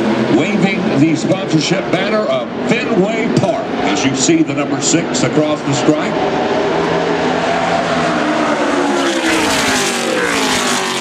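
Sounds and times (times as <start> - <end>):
race car engines at speed: 0.0 - 11.0.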